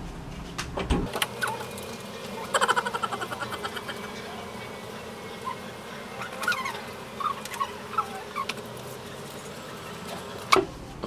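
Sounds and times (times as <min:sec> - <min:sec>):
birds chirping: 0:01.2 - 0:10.6.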